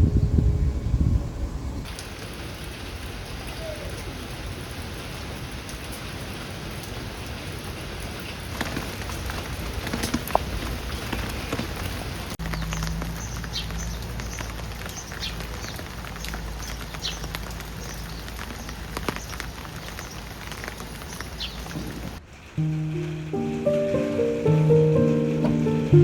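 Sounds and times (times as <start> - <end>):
steady rain falling: 1.8 - 26.0.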